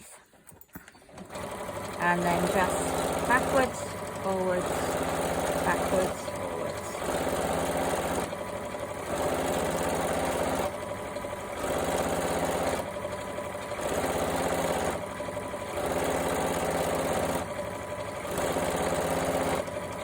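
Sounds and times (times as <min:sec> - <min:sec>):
sewing machine stitching: 0:00.9 - 0:20.0.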